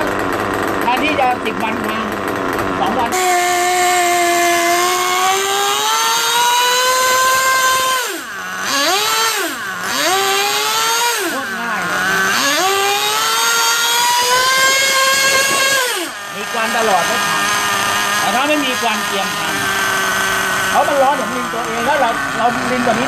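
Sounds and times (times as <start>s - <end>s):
small nitro engine revving: 0.0s - 23.0s.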